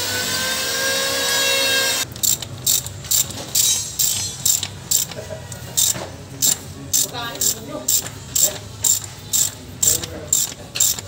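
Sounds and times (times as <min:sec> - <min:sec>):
ratchet wrench clicking: 0:02.1 - 0:11.0.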